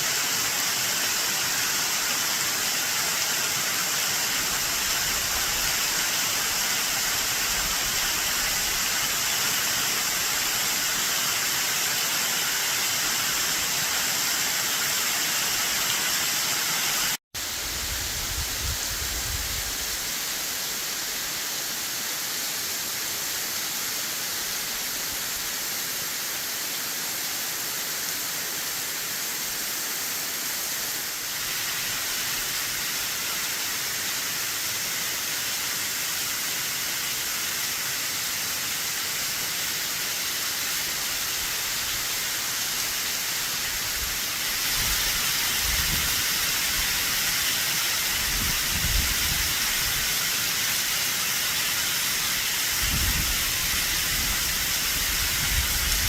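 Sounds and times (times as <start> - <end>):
waterfall rushing: 0.0 - 17.2, 27.9 - 56.0.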